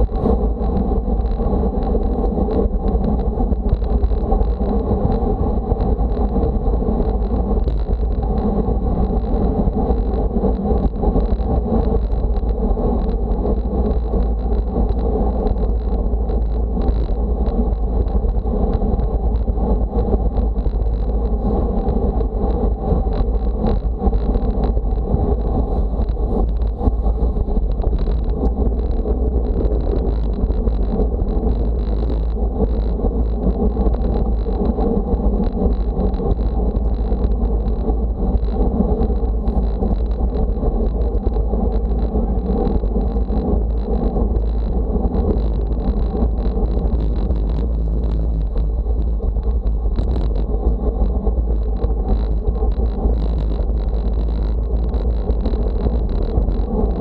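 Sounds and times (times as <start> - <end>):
deep rumble: 0.0 - 57.0
wind rushing over microphone: 0.0 - 57.0.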